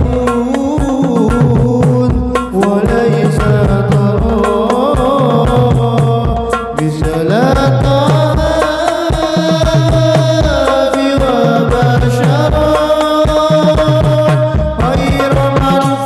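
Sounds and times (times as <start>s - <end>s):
hand drums rhythm: 0.0s - 16.0s.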